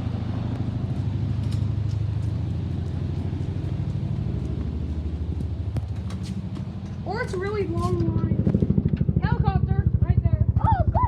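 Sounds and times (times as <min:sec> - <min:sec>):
helicopter flying overhead: 0:00.0 - 0:11.0.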